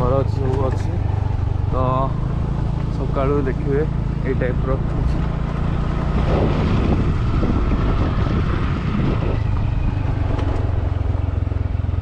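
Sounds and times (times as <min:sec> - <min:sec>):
vehicle engine low rumble: 0:00.0 - 0:12.0
wind buffeting microphone: 0:00.0 - 0:12.0.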